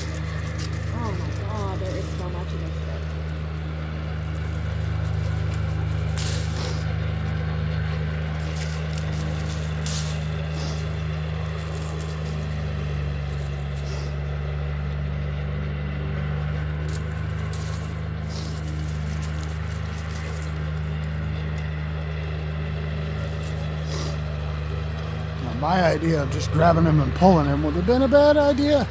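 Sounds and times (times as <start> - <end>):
low mechanical drone: 0.0 - 28.9.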